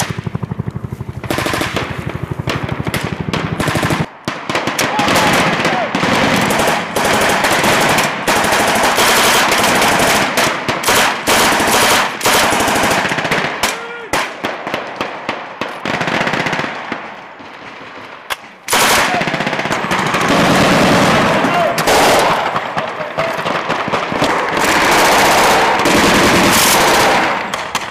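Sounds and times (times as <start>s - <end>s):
machine gun automatic bursts: 0.0s - 13.7s, 14.9s - 18.1s, 18.7s - 27.9s.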